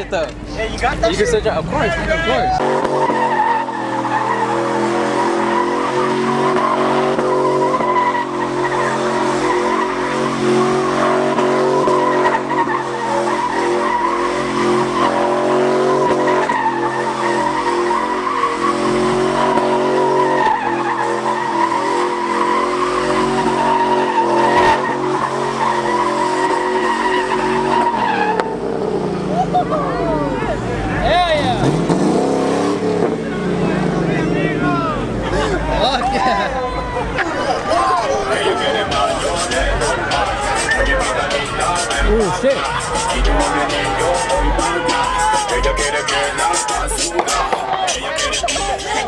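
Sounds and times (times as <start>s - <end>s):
engine running: 0.0s - 49.0s
tyres squealing: 0.0s - 49.0s.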